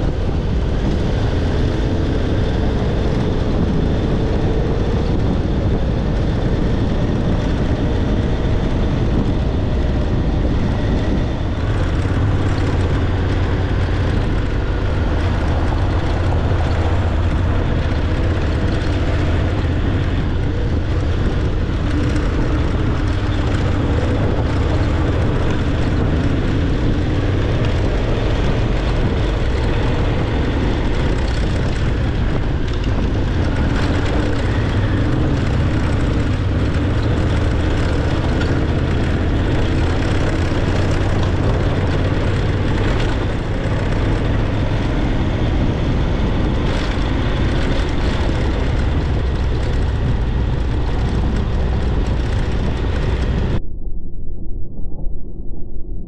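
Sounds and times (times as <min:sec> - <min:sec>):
motorcycle engine running: 0:00.0 - 0:53.6
wind noise: 0:00.0 - 0:56.0.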